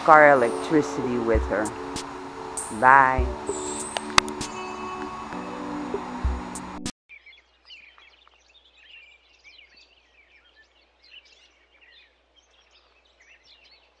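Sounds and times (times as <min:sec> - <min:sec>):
small birds chirping: 0:00.1 - 0:04.8, 0:07.1 - 0:14.0.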